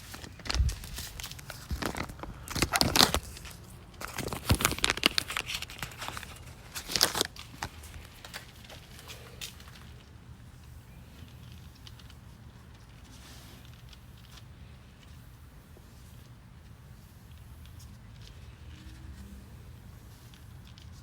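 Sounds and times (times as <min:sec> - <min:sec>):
crinkling rustle of material: 0:00.0 - 0:21.0.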